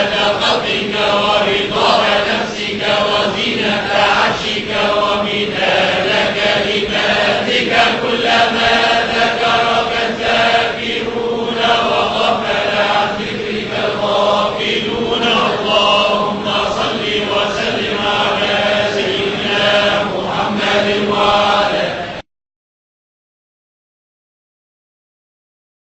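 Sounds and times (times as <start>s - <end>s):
group chanting in unison: 0.0s - 22.2s.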